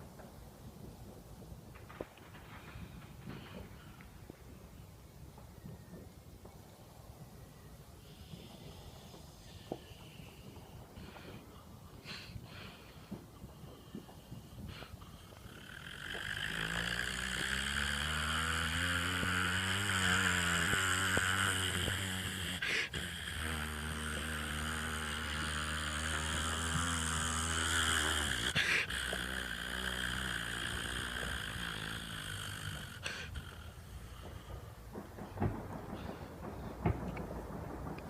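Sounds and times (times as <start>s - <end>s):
engine-like drone with hiss: 7.2s - 37.8s.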